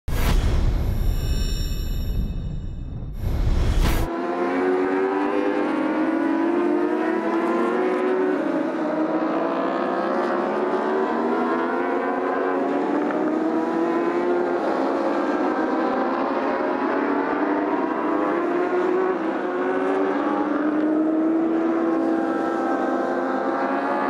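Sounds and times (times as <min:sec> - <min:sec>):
motorcycle engine at high revs: 0:04.1 - 0:24.0.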